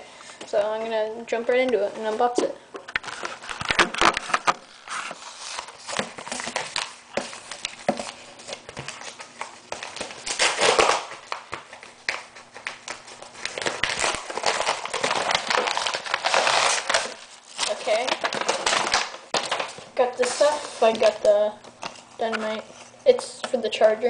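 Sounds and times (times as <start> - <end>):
paper envelope crinkling: 2.9 - 23.0.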